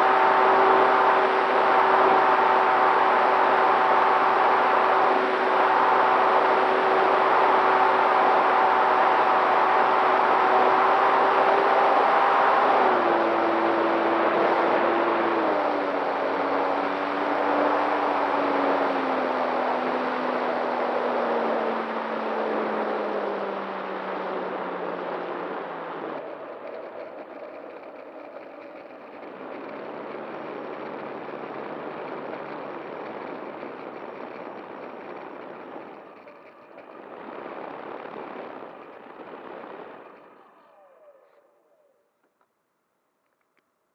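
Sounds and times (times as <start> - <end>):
electric motor and propeller: 0.0 - 42.4.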